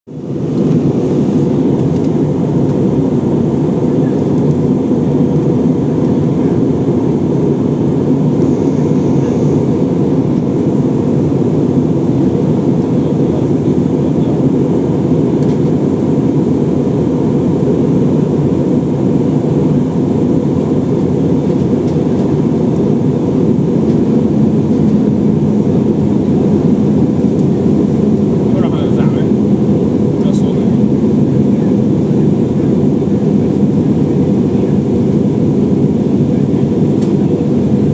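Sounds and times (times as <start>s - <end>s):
jet engine drone in cabin: 0.1s - 37.9s.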